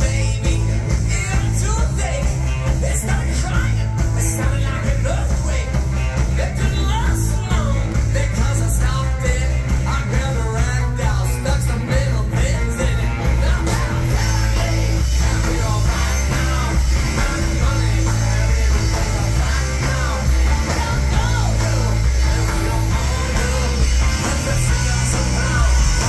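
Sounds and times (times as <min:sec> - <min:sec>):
electric guitar: 0:00.0 - 0:26.0
live rock band playing loudly: 0:00.0 - 0:26.0
man singing: 0:00.0 - 0:26.0.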